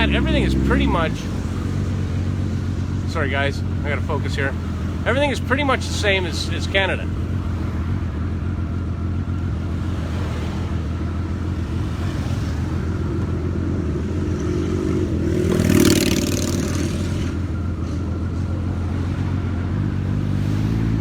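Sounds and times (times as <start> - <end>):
motorcycle engine running: 0.0 - 21.0
road and traffic noise: 0.0 - 21.0.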